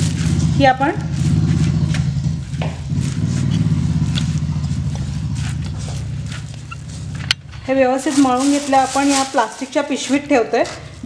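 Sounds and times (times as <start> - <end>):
hands kneading dough: 0.0 - 11.0
steady low machine hum: 0.0 - 11.0.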